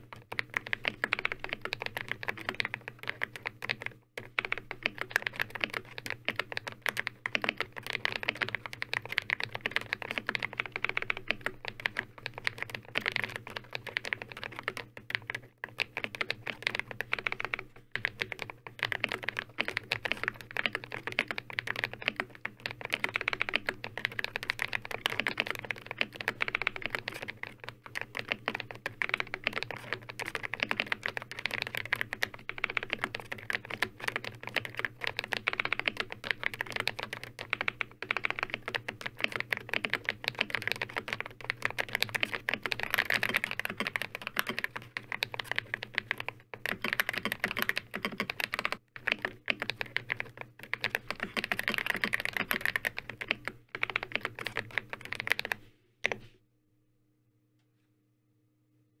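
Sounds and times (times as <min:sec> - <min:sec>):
fast mechanical keyboard typing: 0:00.0 - 0:56.2.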